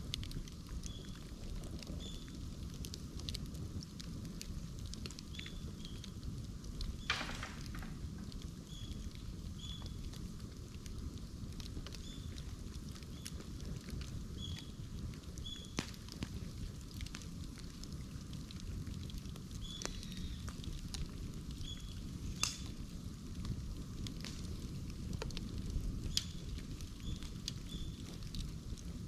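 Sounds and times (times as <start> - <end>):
bamboo crackling and popping: 0.0 - 29.0
fire rumbling: 0.0 - 29.0.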